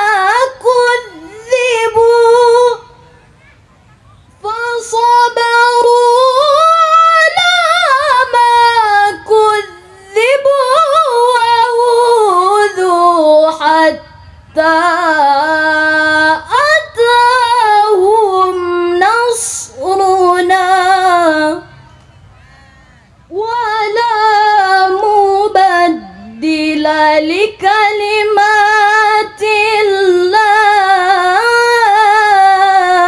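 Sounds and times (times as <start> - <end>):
woman reciting melodically: 0.0 - 3.4, 4.4 - 33.0.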